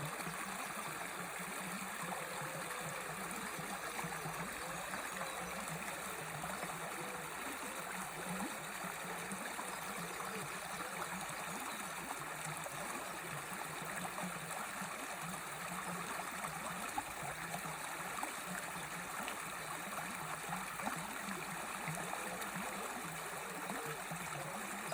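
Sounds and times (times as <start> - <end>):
stream flowing: 0.0 - 24.9.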